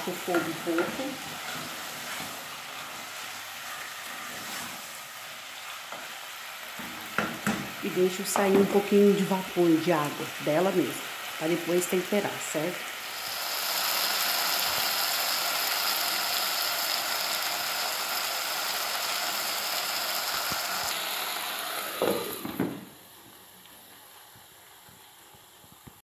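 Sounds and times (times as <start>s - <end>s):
meat sizzling in a pot: 0.0s - 26.0s.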